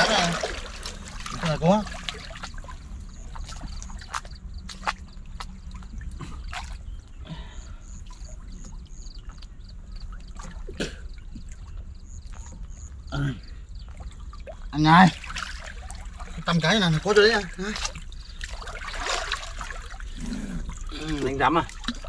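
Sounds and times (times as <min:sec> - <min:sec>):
low steady rumble: 0:00.0 - 0:22.0
muddy water sloshing: 0:00.0 - 0:22.0
small water splashes: 0:00.0 - 0:22.0.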